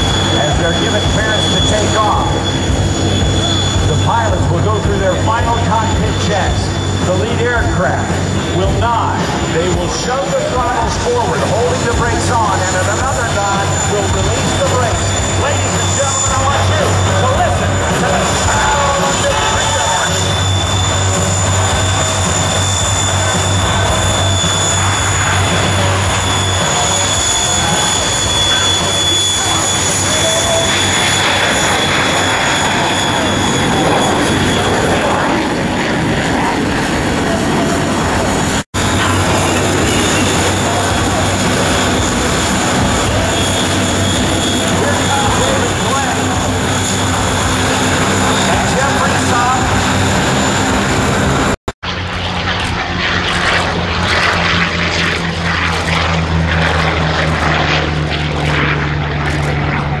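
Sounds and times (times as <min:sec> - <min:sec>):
high whine: 0:00.0 - 1:00.0
propeller planes droning: 0:00.0 - 1:00.0.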